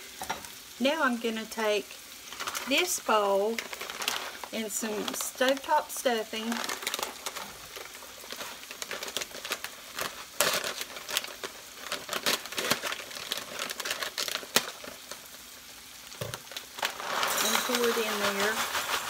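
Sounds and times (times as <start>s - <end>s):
plastic bag crinkling: 2.2s - 19.0s.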